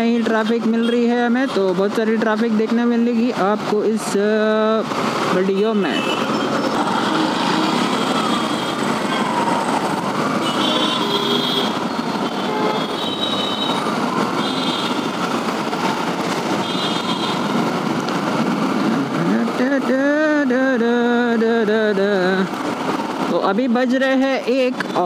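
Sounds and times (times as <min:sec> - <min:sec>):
road traffic engines: 0:00.0 - 0:25.0.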